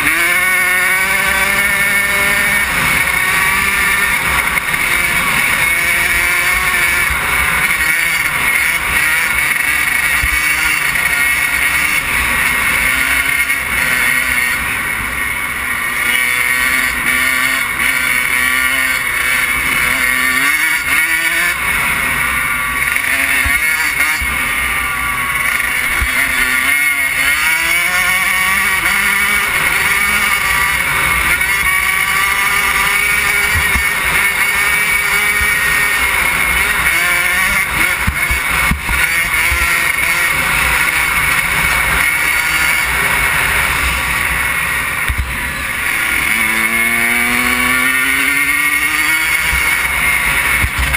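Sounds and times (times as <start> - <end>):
two-stroke engine revving: 0.0 - 50.9.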